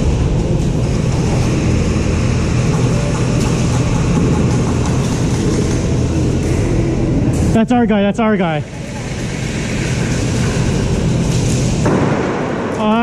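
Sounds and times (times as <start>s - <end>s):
machine hum and rumble: 0.0s - 13.0s.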